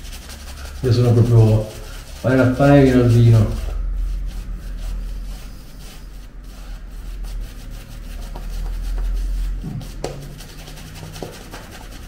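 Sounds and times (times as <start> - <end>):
shaving brush swishing in lather: 0.0 - 12.0
low rumble: 0.5 - 10.4.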